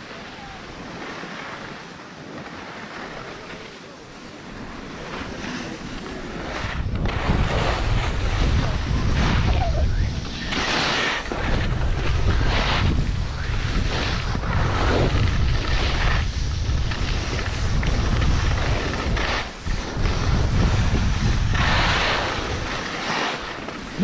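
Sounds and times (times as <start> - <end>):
skis hissing over snow: 0.0 - 24.0
wind rumbling on microphone: 4.3 - 24.0.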